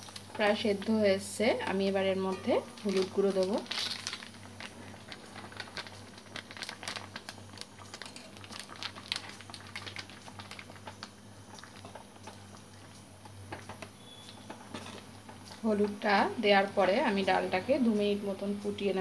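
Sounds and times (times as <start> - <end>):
bubbles popping in boiling pot: 0.0 - 17.3
low steady hum: 0.0 - 19.0.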